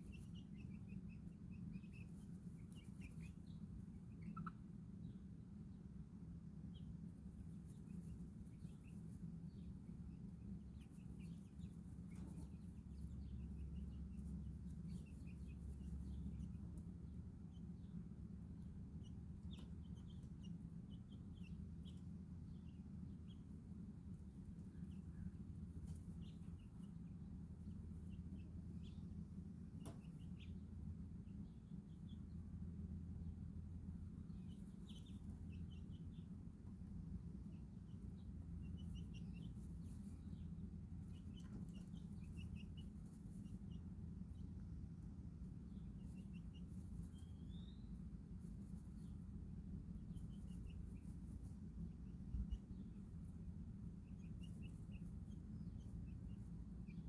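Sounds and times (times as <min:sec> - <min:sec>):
chickens and chicks peeping: 0:00.0 - 0:57.0
steady low hum: 0:00.0 - 0:57.0.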